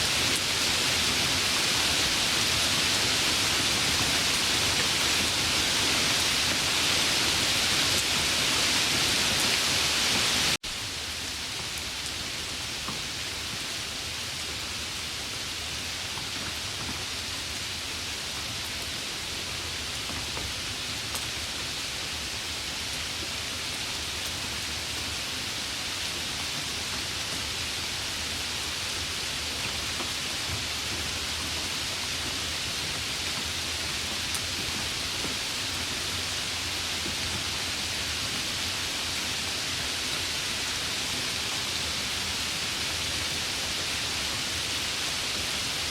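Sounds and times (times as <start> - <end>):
heavy rain: 0.0 - 45.9.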